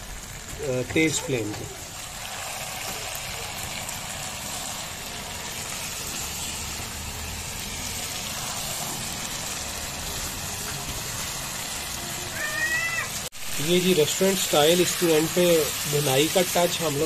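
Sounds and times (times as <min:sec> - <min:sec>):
chicken sizzling in a pan: 0:00.0 - 0:17.0
gas burner rumble: 0:00.0 - 0:17.0.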